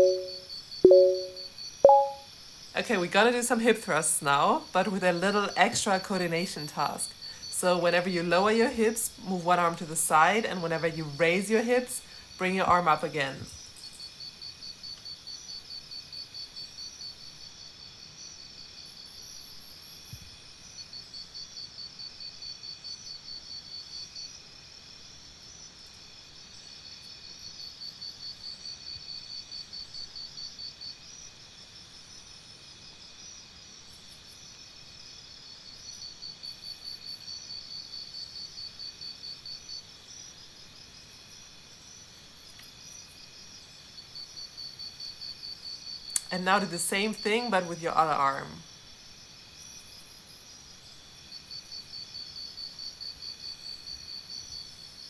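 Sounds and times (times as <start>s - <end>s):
faint steady insect chirring: 0.0s - 55.0s
crickets chirping in rapid trills: 2.3s - 55.0s.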